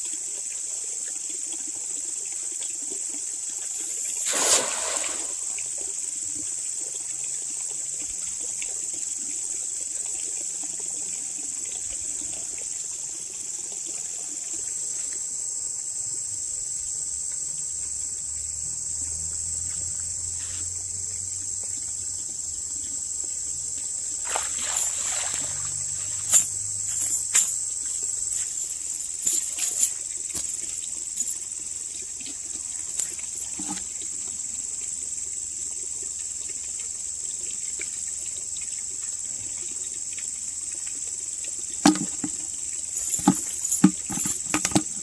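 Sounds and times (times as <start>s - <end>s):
insect chorus buzzing: 0.0s - 45.0s.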